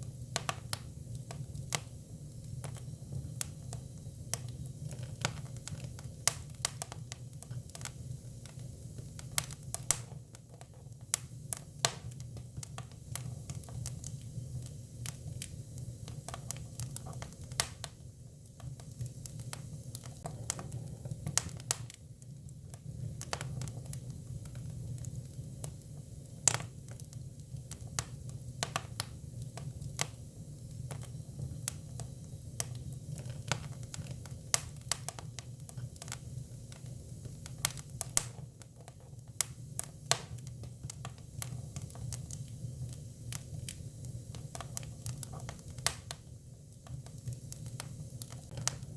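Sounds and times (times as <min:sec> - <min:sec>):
firewood crackling and popping: 0:00.0 - 0:48.9.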